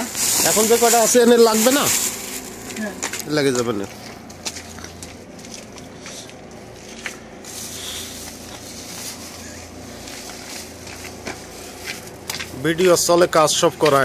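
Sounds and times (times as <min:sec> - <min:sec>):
bags rustling: 0:00.0 - 0:13.0
footsteps: 0:00.0 - 0:14.0
steady low hum: 0:00.0 - 0:14.0.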